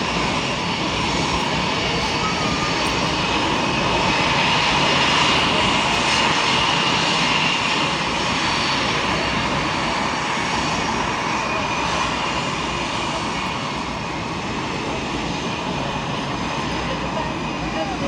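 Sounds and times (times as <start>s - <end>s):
aircraft engine rush: 0.0s - 18.0s.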